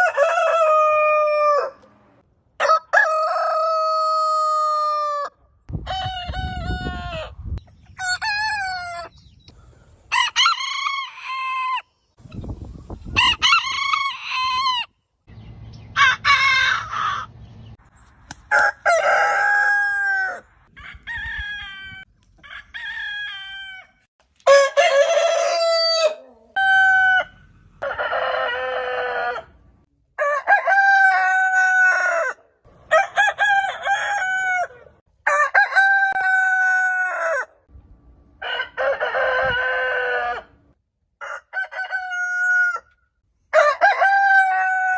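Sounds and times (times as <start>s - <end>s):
roosters crowing: 0.0s - 1.9s, 2.6s - 7.4s, 10.1s - 11.9s, 13.1s - 14.9s, 15.9s - 17.6s, 18.5s - 37.6s, 38.4s - 44.9s.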